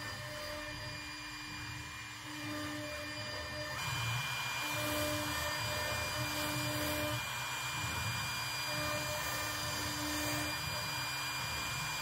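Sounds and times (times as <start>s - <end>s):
router spindle high whine: 0.0s - 12.0s.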